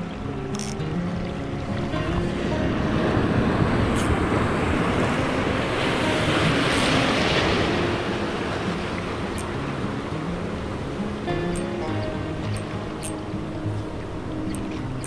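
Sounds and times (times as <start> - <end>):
waves breaking over rocks: 0.0 - 15.0.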